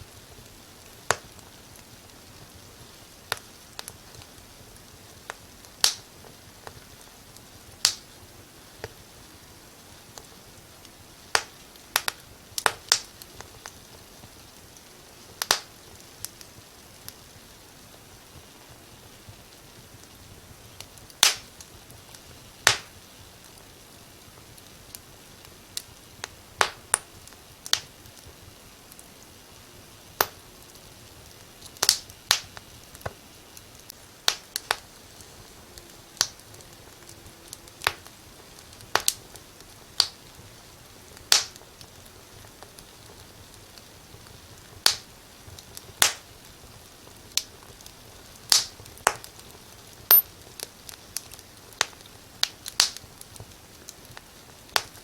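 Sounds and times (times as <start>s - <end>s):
faint steady hiss: 0.0s - 55.0s
fire crackling and popping: 0.0s - 55.0s.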